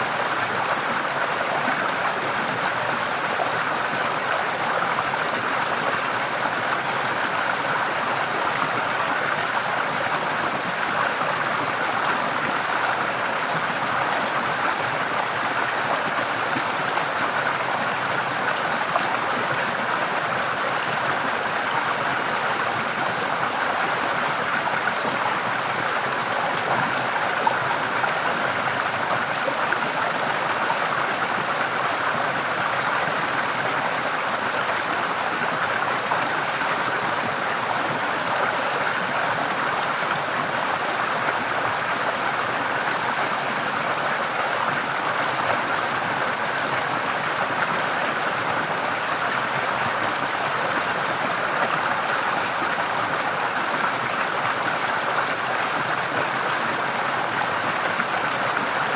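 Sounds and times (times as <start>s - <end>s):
stream water over rocks: 0.0s - 58.9s.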